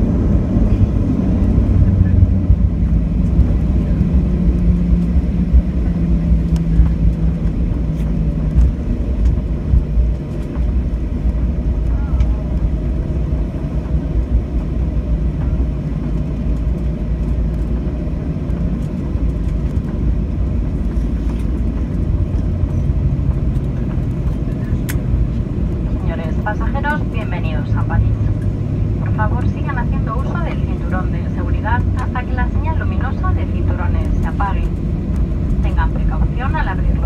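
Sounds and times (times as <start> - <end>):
airplane cabin rumble: 0.0 - 37.0
low hum: 0.0 - 37.0.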